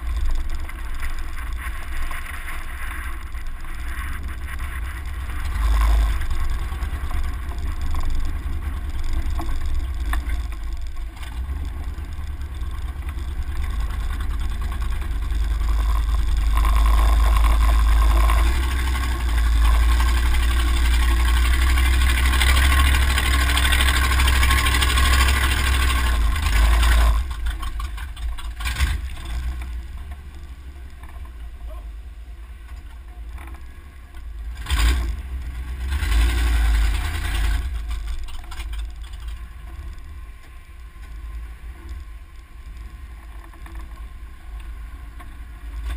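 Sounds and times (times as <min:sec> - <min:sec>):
off-road vehicle engine rumble: 0:00.0 - 0:45.9
tyres on dirt trail: 0:00.0 - 0:45.9.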